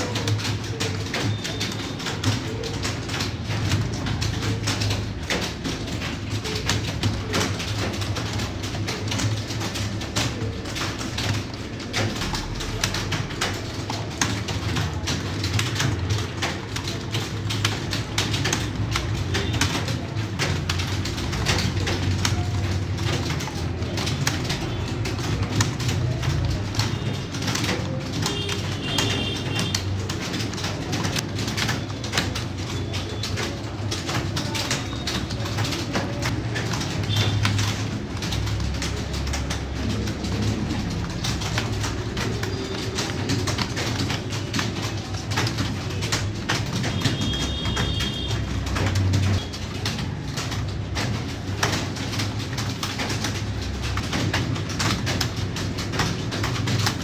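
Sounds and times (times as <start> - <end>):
keyboards clattering: 0.0 - 57.0.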